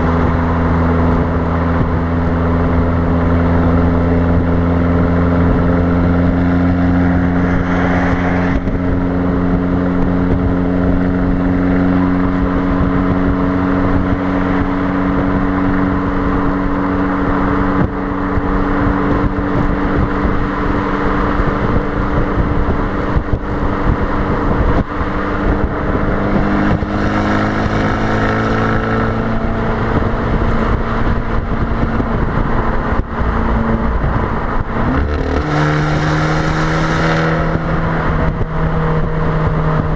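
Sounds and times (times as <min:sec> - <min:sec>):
car exhaust drone at cruise: 0:00.0 - 0:39.9
wind rushing over microphone: 0:00.0 - 0:39.9.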